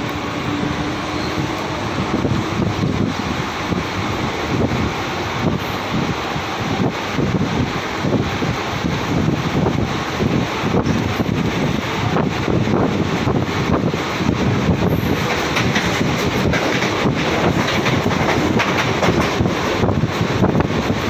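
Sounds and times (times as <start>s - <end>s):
train wheels rumbling on rails: 0.0s - 21.0s
wind buffeting microphone: 0.0s - 21.0s.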